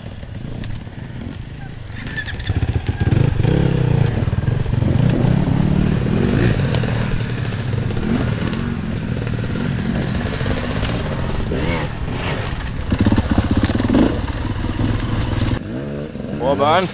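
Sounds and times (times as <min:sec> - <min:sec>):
dirt bike engine revving: 0:00.0 - 0:16.9.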